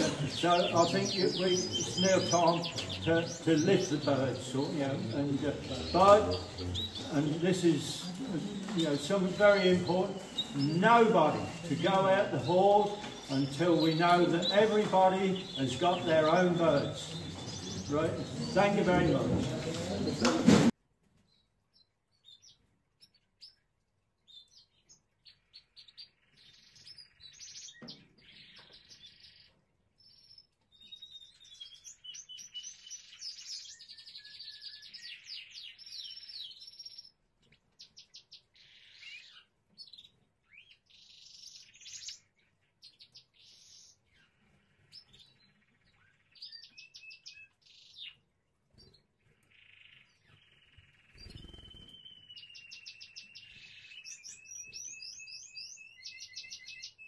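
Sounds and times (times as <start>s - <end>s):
canary singing: 0.0s - 20.6s, 24.3s - 57.0s.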